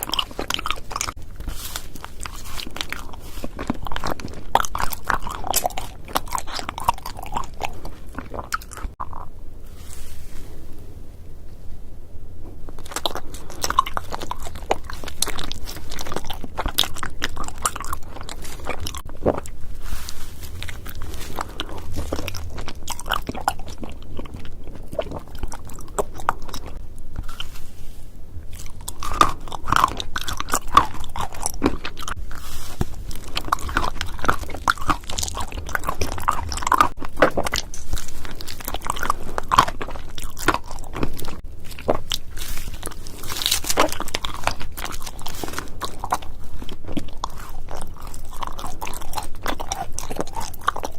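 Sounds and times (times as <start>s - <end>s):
crunchy bites and chewing: 0.0s - 11.0s, 12.4s - 50.9s.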